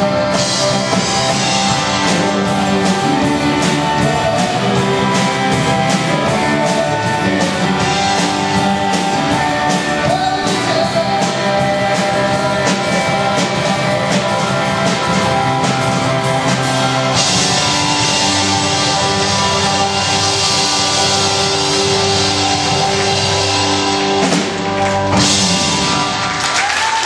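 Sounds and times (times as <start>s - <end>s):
drum beat: 0.0s - 27.0s
rock music with guitar: 0.0s - 27.0s.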